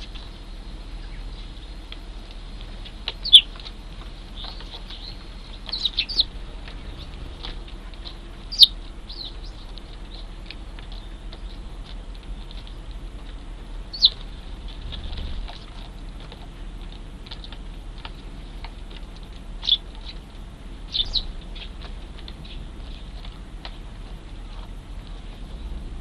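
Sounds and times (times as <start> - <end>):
sparrows chirping: 0.0 - 25.8.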